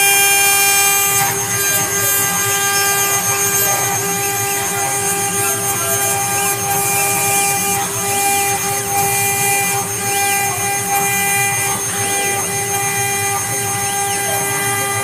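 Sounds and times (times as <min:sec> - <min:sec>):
high machine whine: 0:00.0 - 0:15.0.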